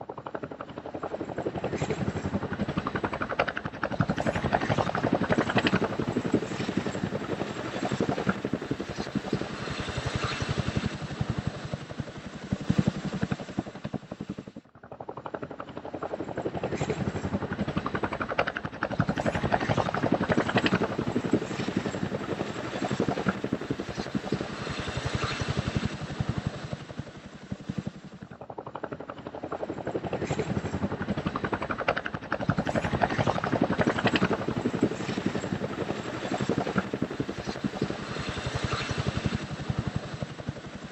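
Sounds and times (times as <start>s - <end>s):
helicopter rotor blades beating: 0.0s - 40.9s.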